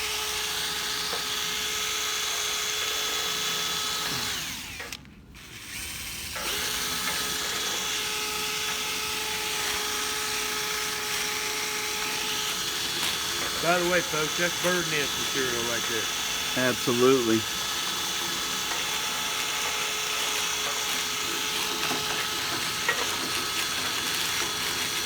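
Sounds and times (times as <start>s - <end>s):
power drill running: 0.0s - 25.0s.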